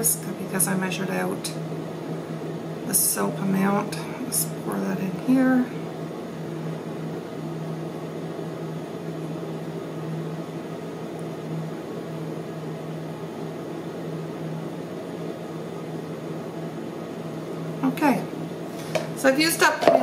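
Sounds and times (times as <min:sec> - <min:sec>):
electrical hum of appliance: 0:00.0 - 0:20.0.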